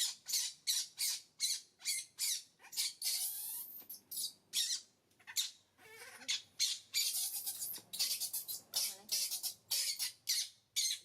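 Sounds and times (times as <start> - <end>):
baby monkey squeaking: 0.0 - 11.0.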